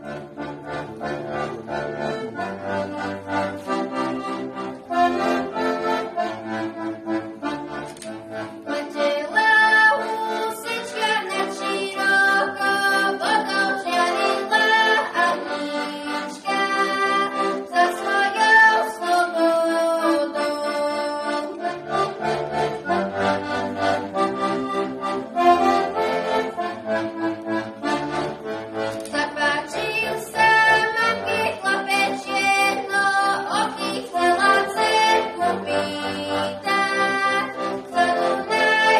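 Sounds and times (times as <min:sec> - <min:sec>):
accordion playing folk tune: 0:00.0 - 0:38.9.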